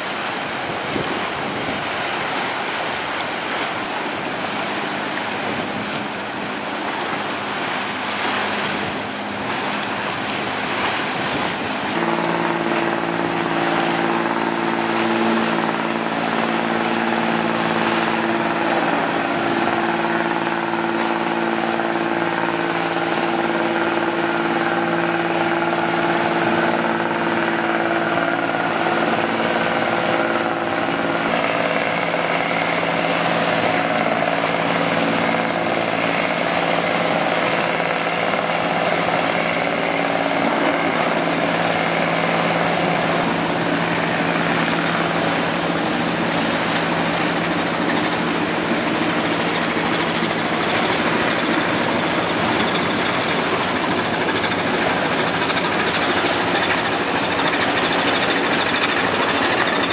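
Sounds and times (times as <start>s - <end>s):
marine engine droning: 0.0s - 59.9s
wind and water: 0.0s - 59.9s.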